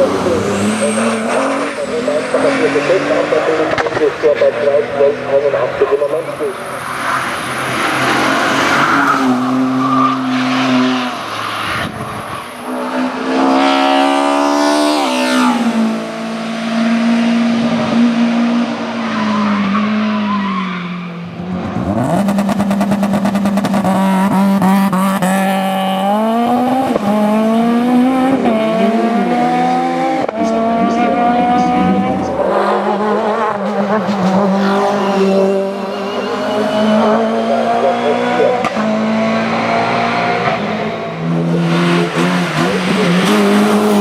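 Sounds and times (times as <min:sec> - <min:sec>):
race car engines at full throttle: 0:00.0 - 0:44.0.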